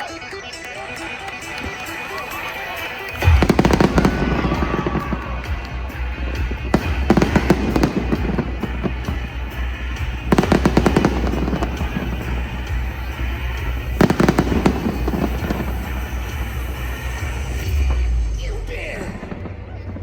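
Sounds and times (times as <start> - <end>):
music with deep bass: 0.0 - 20.0
fireworks bursting and crackling: 0.8 - 20.0.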